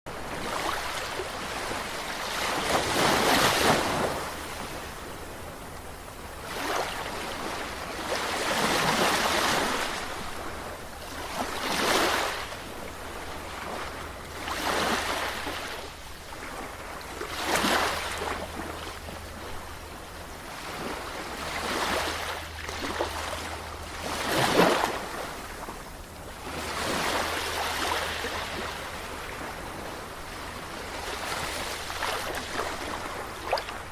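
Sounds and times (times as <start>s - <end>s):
sea waves breaking on shore: 0.1s - 33.9s
wind rumble on microphone: 0.1s - 33.9s.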